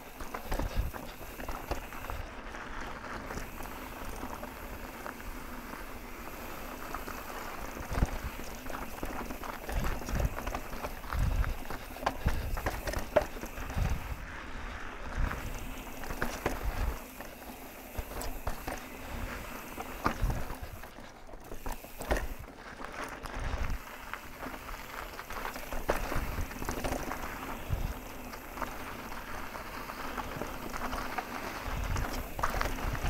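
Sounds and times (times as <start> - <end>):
bike clicking and rattling: 0.0 - 33.0
bike tyres crunching on dirt: 0.0 - 33.0.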